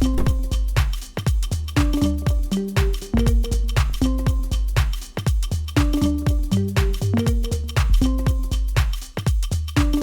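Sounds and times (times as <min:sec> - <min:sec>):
electronic dance music: 0:00.0 - 0:10.0
steady kick drum: 0:00.0 - 0:10.0.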